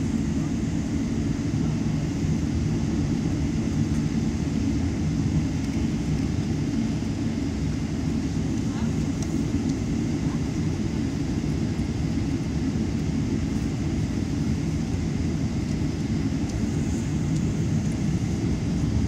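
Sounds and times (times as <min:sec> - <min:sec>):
low rumble of jet engines: 0:00.0 - 0:19.0.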